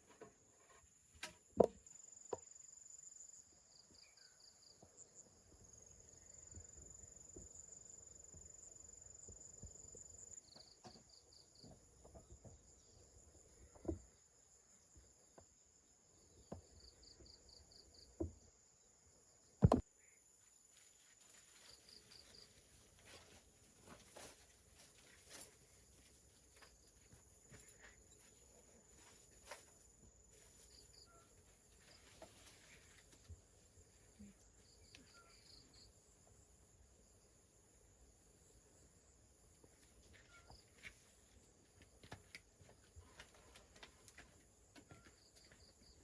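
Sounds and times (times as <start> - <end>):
insects chirping: 0.0 - 46.0.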